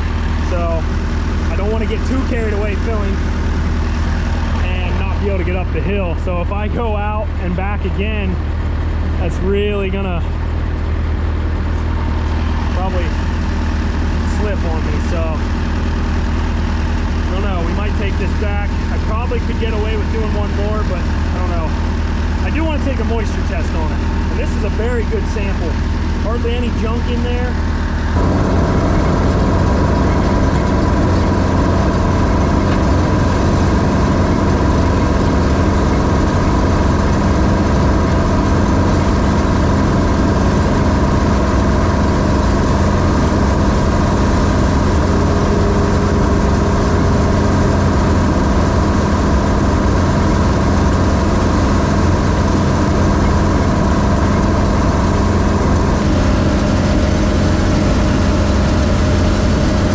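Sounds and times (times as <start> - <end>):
combine engine humming: 0.0 - 59.9.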